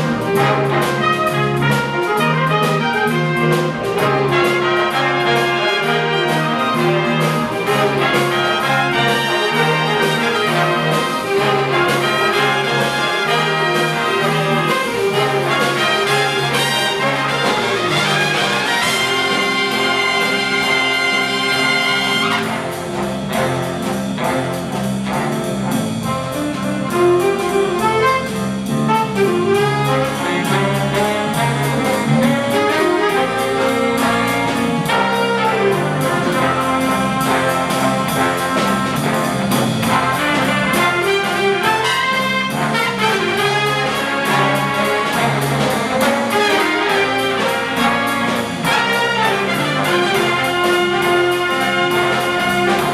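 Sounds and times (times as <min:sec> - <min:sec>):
big band playing jazz: 0:00.0 - 0:52.9.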